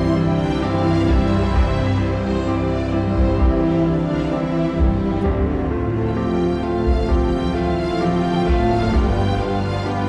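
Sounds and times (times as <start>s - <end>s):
music with sustained chords: 0.0s - 10.0s.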